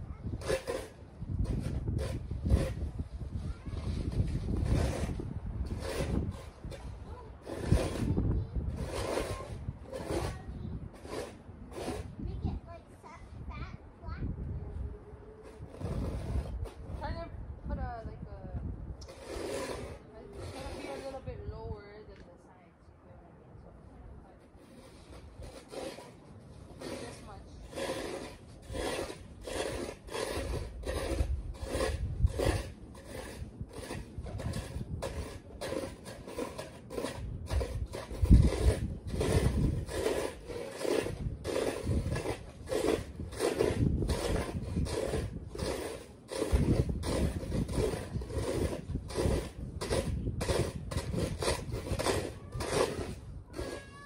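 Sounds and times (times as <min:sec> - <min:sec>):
snow scraping and scooping: 0:00.4 - 0:12.8, 0:15.6 - 0:17.2, 0:19.1 - 0:21.6, 0:24.6 - 0:54.0.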